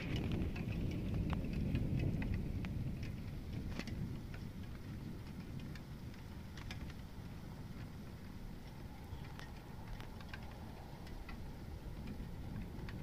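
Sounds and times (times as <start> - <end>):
low rumble: 0.0 - 13.0
sharp ticks of large raindrops: 0.0 - 13.0.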